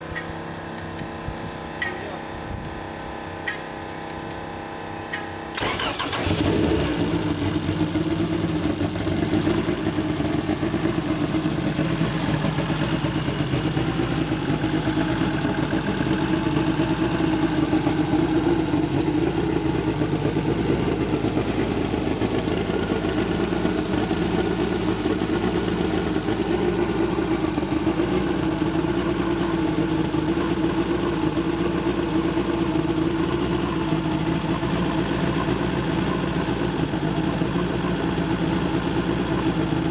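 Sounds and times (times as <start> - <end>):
car engine starting and idling: 5.5 - 39.9.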